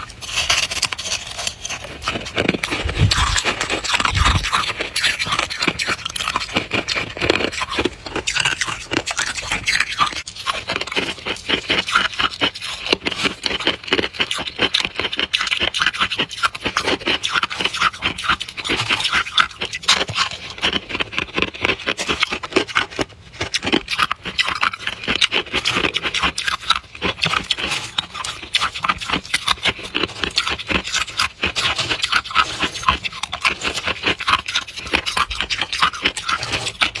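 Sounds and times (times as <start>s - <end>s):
chewing crisp frost: 0.0s - 37.0s.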